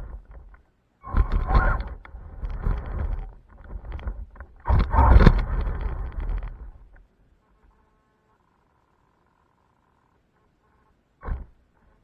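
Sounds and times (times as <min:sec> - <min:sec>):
rc car driving on asphalt: 0:00.0 - 0:12.0.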